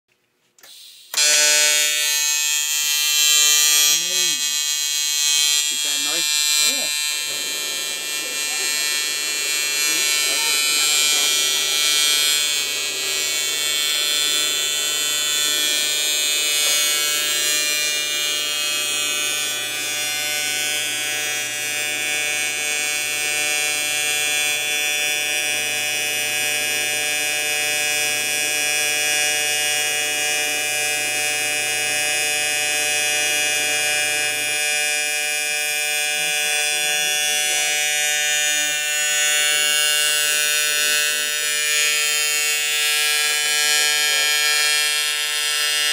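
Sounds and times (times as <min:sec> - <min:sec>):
electric welding arc buzzing: 0:00.6 - 0:45.9.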